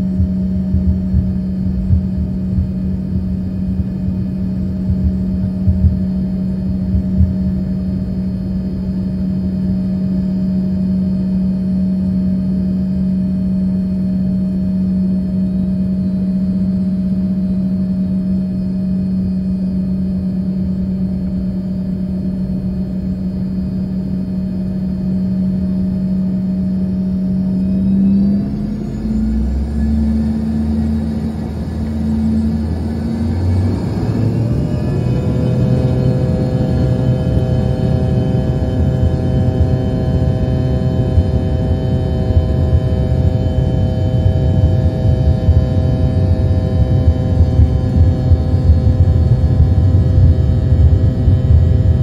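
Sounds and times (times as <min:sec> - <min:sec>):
low rumble: 0:00.0 - 0:09.1, 0:18.6 - 0:52.0
jet engines humming: 0:00.0 - 0:10.1, 0:14.4 - 0:52.0.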